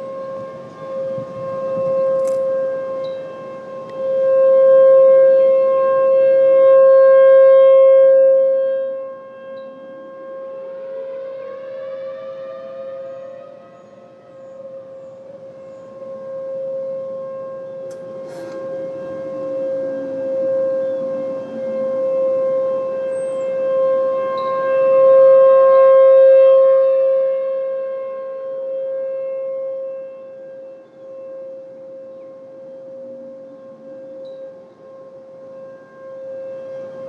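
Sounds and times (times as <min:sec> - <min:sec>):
rising and falling siren: 0:00.0 - 0:37.0
steady siren tone: 0:00.0 - 0:37.0.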